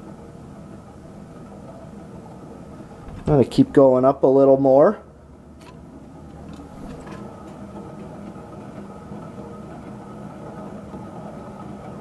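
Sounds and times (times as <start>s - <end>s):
ceiling fan with rough bearings: 0.0s - 12.0s.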